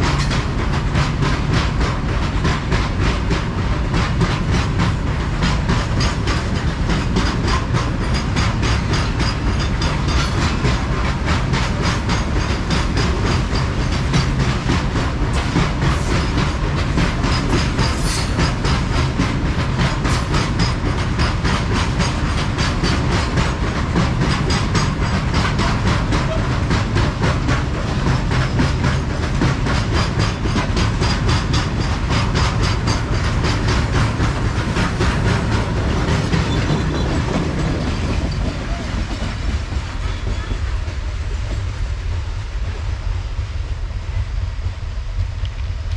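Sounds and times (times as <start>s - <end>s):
train wheels clattering over rail joints: 0.0s - 42.9s.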